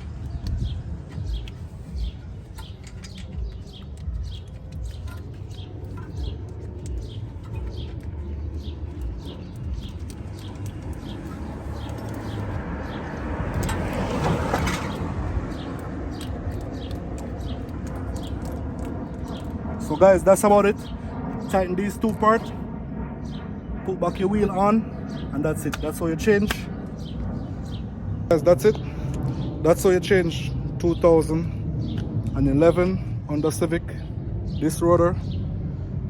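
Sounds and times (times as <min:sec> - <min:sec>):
low outdoor rumble: 0:00.0 - 0:36.0
small birds chirping: 0:00.0 - 0:36.0.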